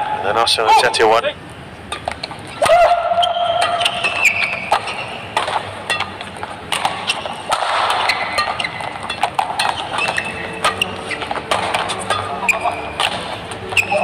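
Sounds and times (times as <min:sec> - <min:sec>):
shoes squeaking on court: 0:01.8 - 0:14.0
rackets hitting shuttlecock: 0:01.9 - 0:14.0.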